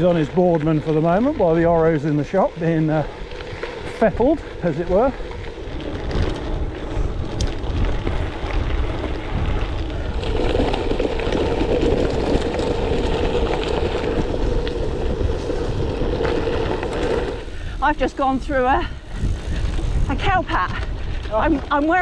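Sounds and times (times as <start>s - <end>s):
bike tyres rolling on gravel: 0.0s - 22.0s
wind buffeting microphone: 0.0s - 22.0s.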